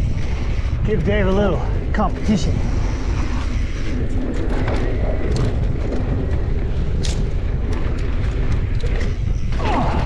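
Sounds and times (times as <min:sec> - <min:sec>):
bike clicking and rattling: 0:00.0 - 0:10.0
tyres rumbling on dirt trail: 0:00.0 - 0:10.0
wind on microphone: 0:00.0 - 0:10.0.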